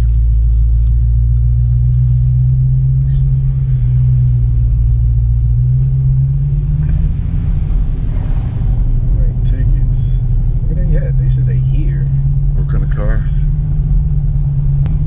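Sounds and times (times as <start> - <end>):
car engine at low speed: 0.0 - 15.0.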